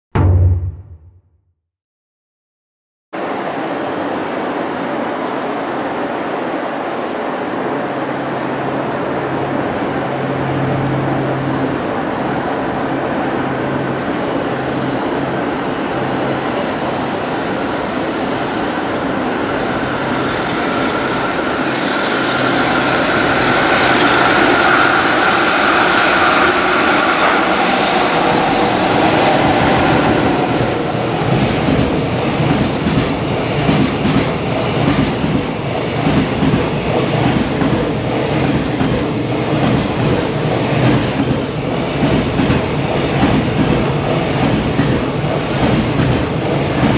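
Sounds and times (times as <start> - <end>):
electric locomotive passing: 3.2 - 46.9.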